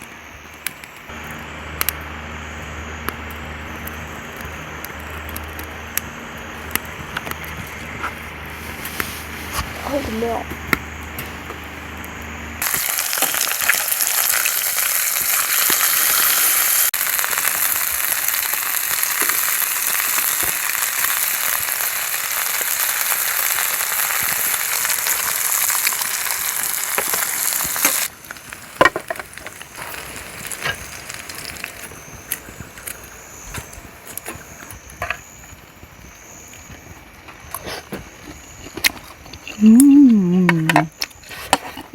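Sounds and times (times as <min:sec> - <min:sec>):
meat sizzling over a fire: 0:00.0 - 0:41.7
fire crackling and popping: 0:00.0 - 0:41.9.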